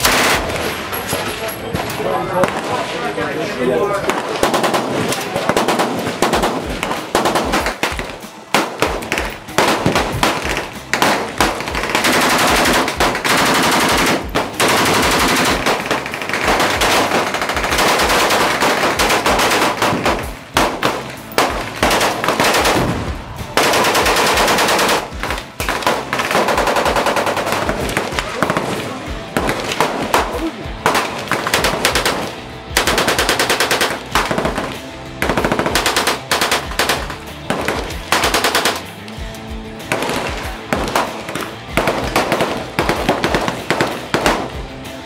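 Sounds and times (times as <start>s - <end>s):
machine gun firing rapid bursts: 0.0s - 0.6s, 4.0s - 23.0s, 23.6s - 38.9s, 39.9s - 44.6s
rifle firing full auto: 0.0s - 0.9s, 4.0s - 39.0s, 39.9s - 44.6s.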